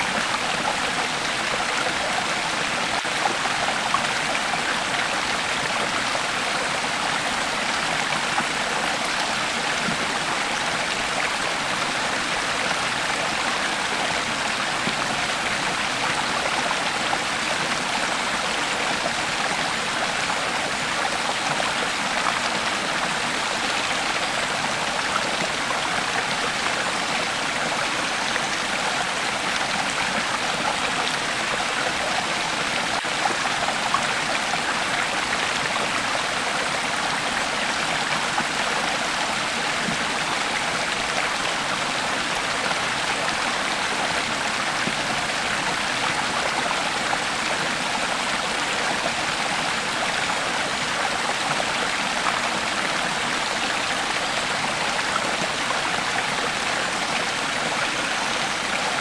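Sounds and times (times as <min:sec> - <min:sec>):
creek water flowing: 0:00.0 - 0:59.0.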